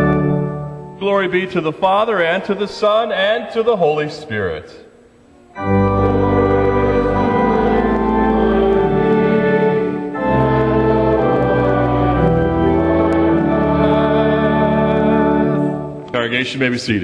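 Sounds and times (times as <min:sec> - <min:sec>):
church organ playing chords: 0:00.0 - 0:04.7, 0:05.5 - 0:17.0.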